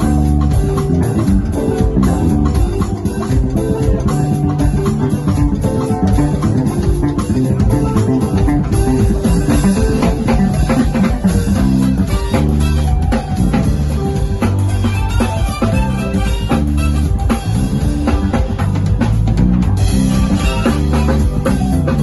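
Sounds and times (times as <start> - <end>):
drum kit: 0.0 - 22.0
electric bass groove: 0.0 - 22.0
keyboard: 0.0 - 22.0.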